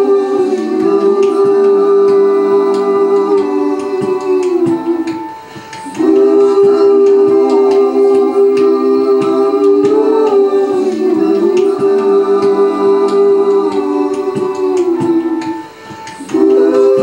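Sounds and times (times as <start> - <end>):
layered wordless vocal drone: 0.0 - 17.0.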